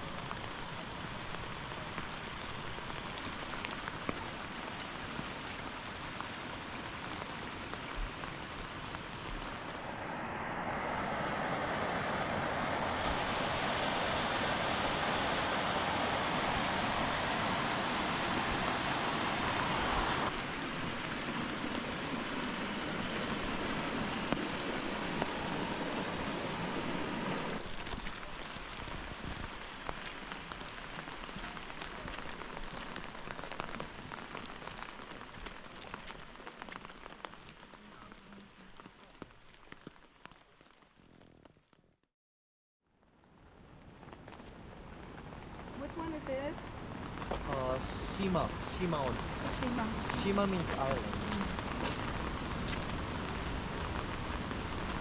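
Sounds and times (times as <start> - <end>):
rushing water: 0.0 - 40.9, 44.0 - 55.0.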